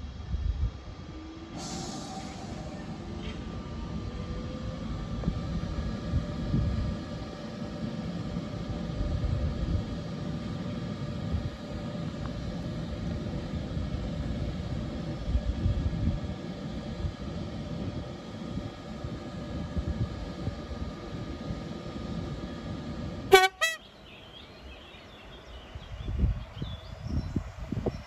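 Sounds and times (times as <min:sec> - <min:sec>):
electric locomotive humming: 0:00.0 - 0:24.1.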